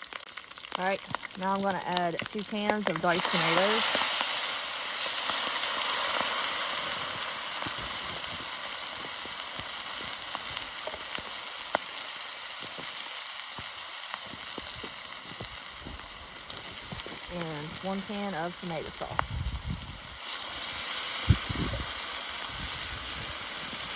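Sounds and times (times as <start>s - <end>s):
meat and vegetables sizzling: 0.0s - 23.9s.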